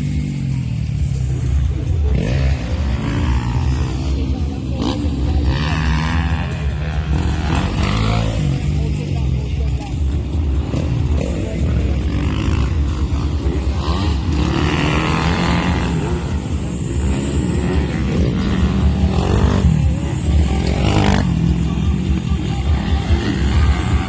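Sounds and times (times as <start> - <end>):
motocross bikes revving past: 0.0 - 24.0.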